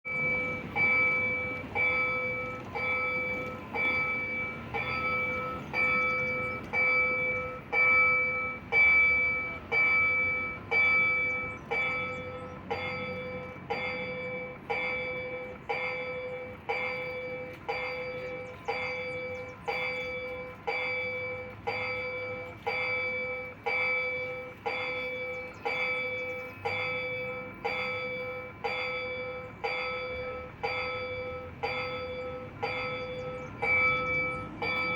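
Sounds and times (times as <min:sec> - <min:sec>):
level crossing bell ringing: 0:00.1 - 0:34.9.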